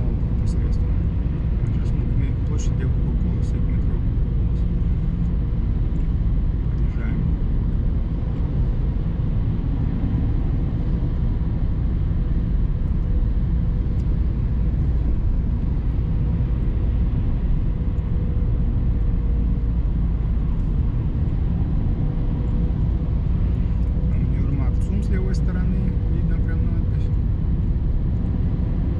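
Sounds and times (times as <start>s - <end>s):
car road and engine rumble: 0.0s - 28.9s.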